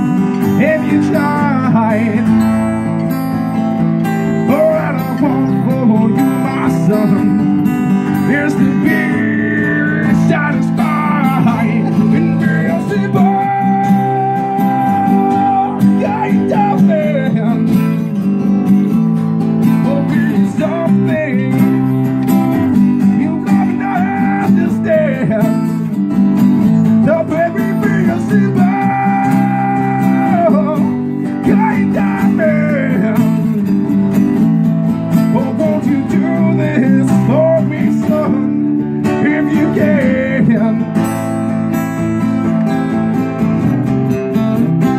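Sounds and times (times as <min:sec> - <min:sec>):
acoustic guitars playing: 0:00.0 - 0:44.9.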